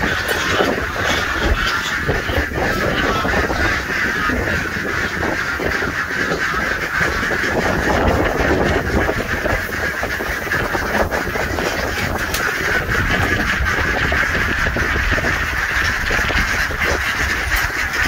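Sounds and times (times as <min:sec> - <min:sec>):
ducks and geese calling: 0:00.0 - 0:18.0.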